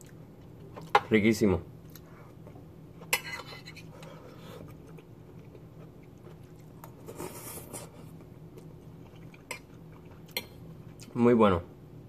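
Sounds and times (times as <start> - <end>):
person chewing: 0.0 - 1.0, 1.8 - 11.2
faint steady hum: 0.0 - 12.0.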